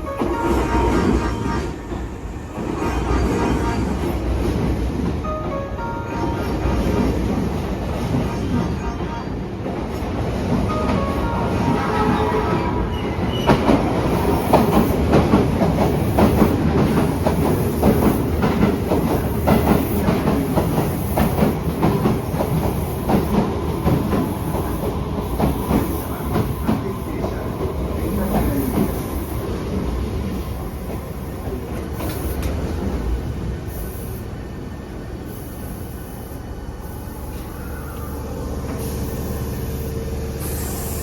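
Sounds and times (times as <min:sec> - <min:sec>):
train rumbling on rails: 0:00.0 - 0:41.0.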